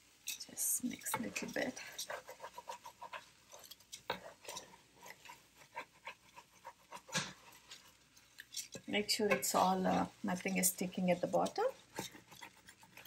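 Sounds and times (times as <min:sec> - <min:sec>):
wooden spatula scraping in metal pot: 0:00.3 - 0:13.0.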